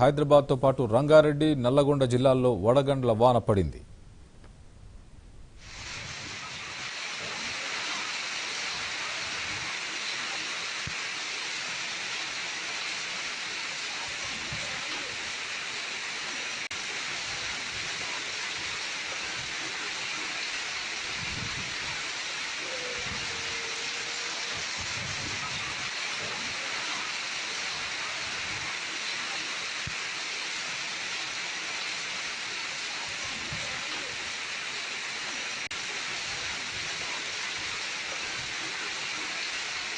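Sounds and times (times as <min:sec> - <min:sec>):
heavy rain and hail hissing: 0:05.6 - 0:39.9.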